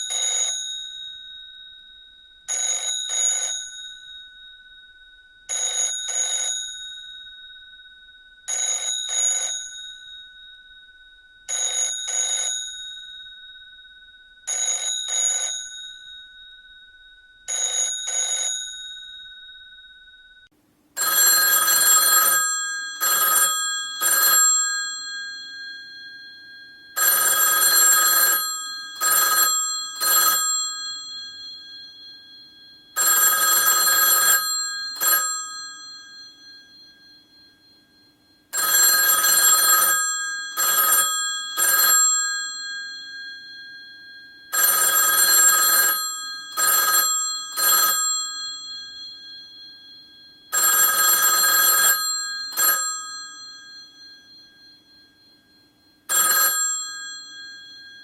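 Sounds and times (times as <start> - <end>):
different telephone ring tone: 0.0 - 1.6, 2.5 - 4.3, 5.5 - 7.1, 8.5 - 10.3, 11.5 - 13.4, 14.5 - 16.3, 17.5 - 20.2, 21.0 - 58.0
old telephone bell ringing: 0.0 - 1.8, 2.5 - 4.4, 5.5 - 7.4, 8.5 - 10.4, 11.5 - 13.4, 14.5 - 20.1, 21.0 - 58.0.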